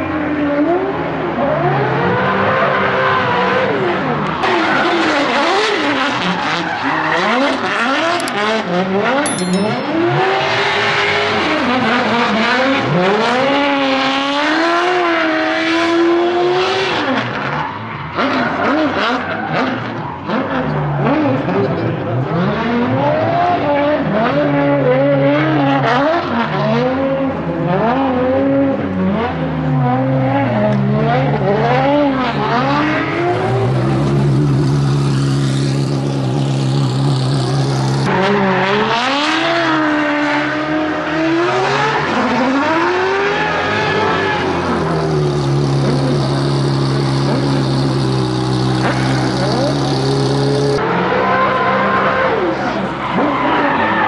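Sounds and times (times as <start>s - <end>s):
car engine revving: 0.0s - 9.2s, 9.8s - 54.0s.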